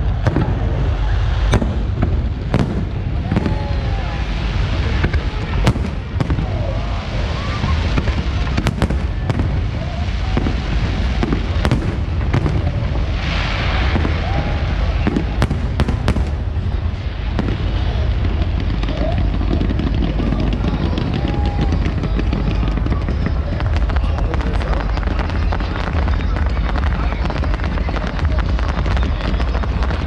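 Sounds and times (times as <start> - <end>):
crackling hiss: 0.0 - 30.0
fireworks booming rumble: 0.0 - 30.0
fireworks cracks and bangs: 0.0 - 30.0.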